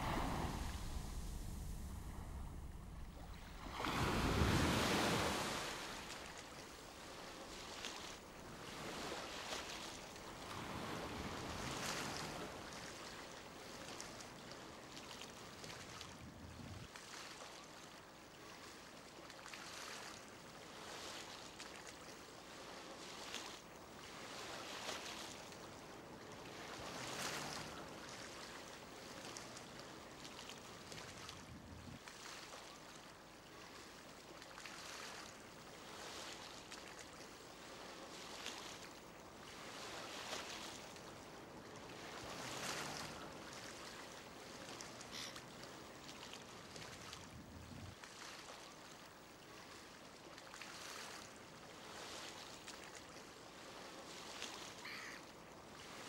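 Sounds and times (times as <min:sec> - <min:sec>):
faint waves washing: 0:00.0 - 0:56.0.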